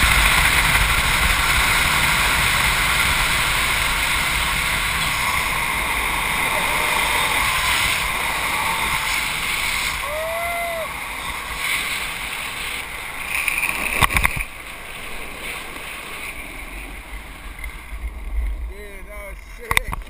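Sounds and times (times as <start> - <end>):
longboard wheels rolling on asphalt: 0.0 - 20.0
wind rushing over microphone: 0.0 - 20.0.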